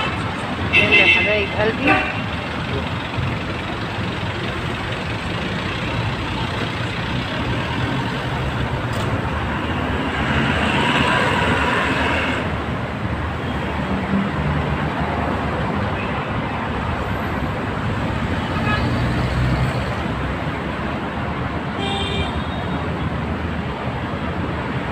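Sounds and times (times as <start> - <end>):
cars passing on busy street: 0.0 - 24.9.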